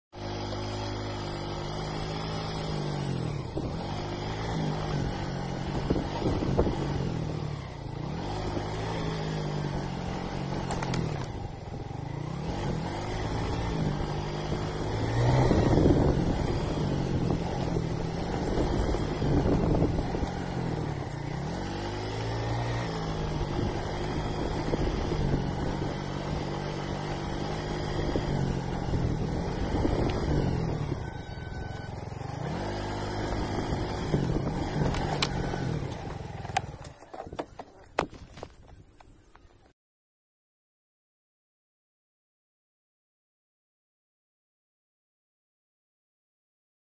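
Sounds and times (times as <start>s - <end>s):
vehicle engine running: 0.2s - 39.7s.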